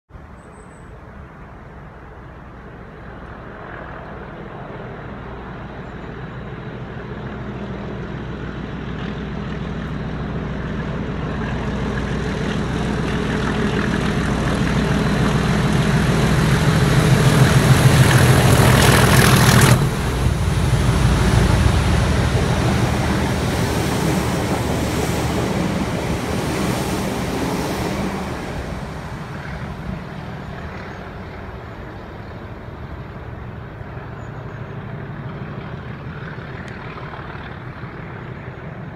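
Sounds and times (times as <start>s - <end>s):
diesel locomotive engine growling: 1.1s - 38.9s
train wheels rumbling on rails: 6.9s - 38.9s.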